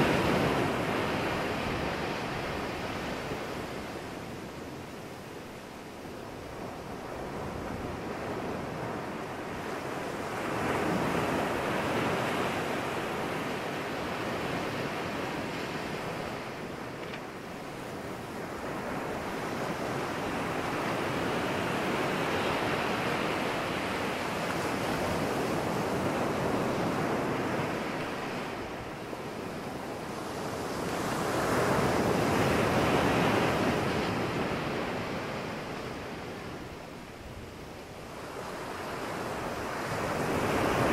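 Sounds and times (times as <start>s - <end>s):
surf breaking on rocks and beach: 0.0s - 4.8s, 6.6s - 37.3s, 38.0s - 40.9s.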